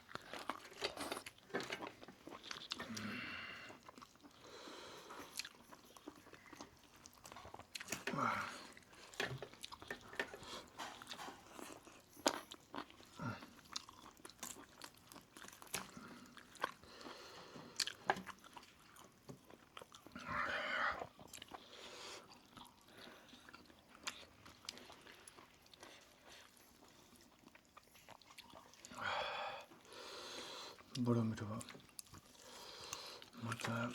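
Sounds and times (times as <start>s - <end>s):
chewing and crunching: 0.0s - 33.9s.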